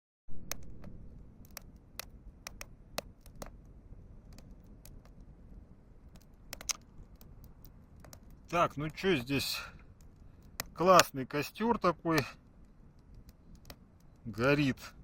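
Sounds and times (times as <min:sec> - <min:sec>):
campfire crackling and popping: 0:00.3 - 0:15.0
low steady rumble: 0:00.3 - 0:15.0.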